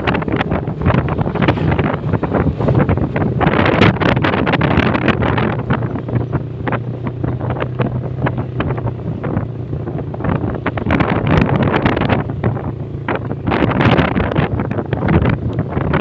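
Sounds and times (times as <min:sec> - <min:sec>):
motorcycle engine hum: 0:00.0 - 0:16.0
wind buffeting microphone: 0:00.0 - 0:16.0.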